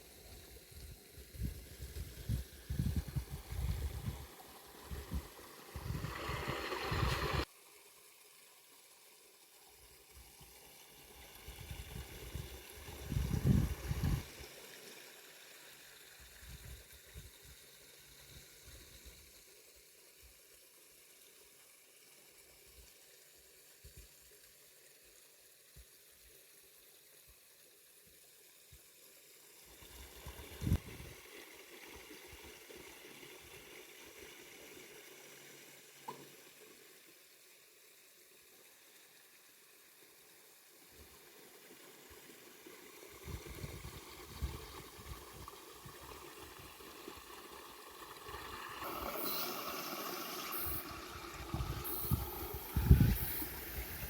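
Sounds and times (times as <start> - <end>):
water splashing and trickling: 0.0 - 19.9, 23.0 - 54.0.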